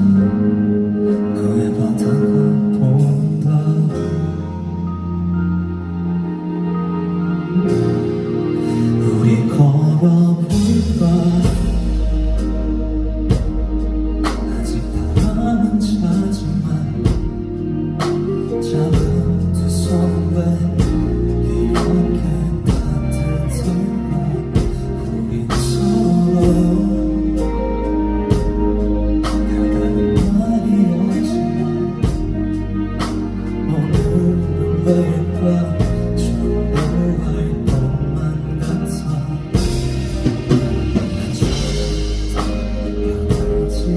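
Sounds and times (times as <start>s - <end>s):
live band music: 0.0s - 43.9s
person singing: 0.0s - 43.9s.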